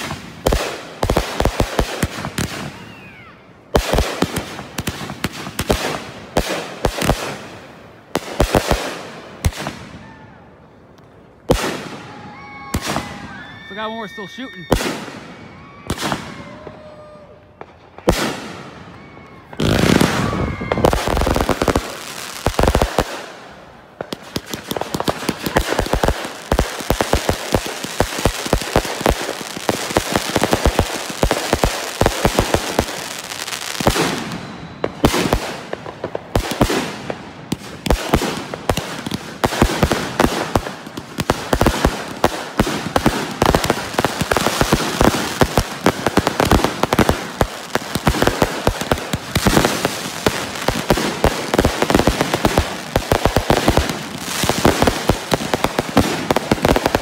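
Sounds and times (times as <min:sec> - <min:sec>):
fireworks barrage of shots and bangs: 0:00.0 - 0:57.0.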